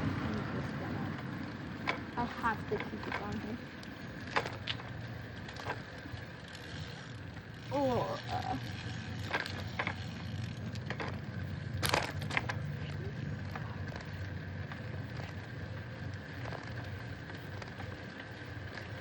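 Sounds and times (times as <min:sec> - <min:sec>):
bicycle riding rumble: 0:00.0 - 0:19.0.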